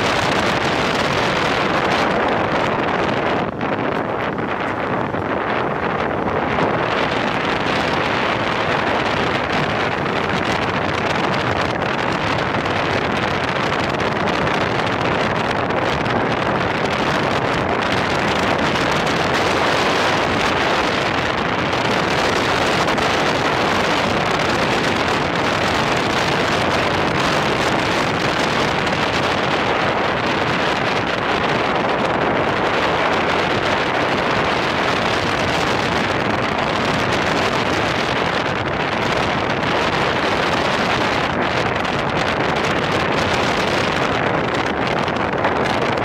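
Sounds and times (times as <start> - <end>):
wind on microphone: 0.0 - 46.0.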